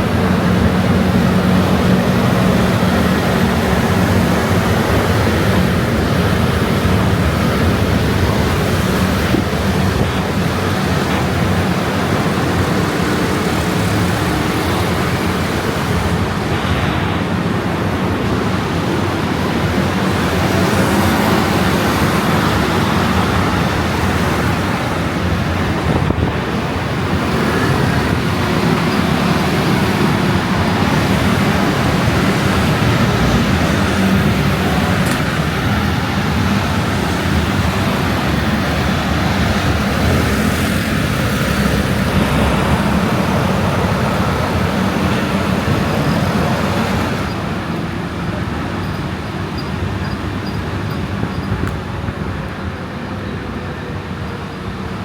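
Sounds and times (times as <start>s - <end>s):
road and wind rumble: 0.0s - 55.0s.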